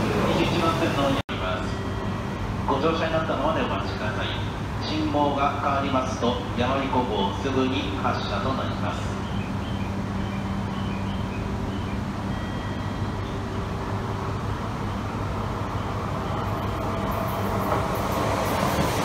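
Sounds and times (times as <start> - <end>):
train pulling into platform: 0.0 - 19.0.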